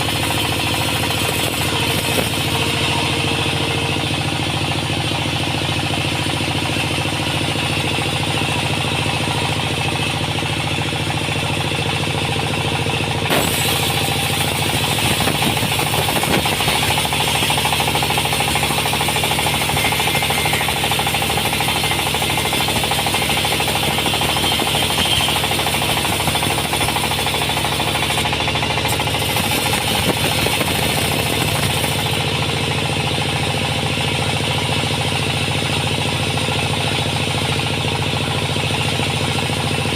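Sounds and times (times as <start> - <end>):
saw cutting through wood: 0.0 - 11.0, 12.0 - 34.2
sawmill engine running: 0.0 - 39.9.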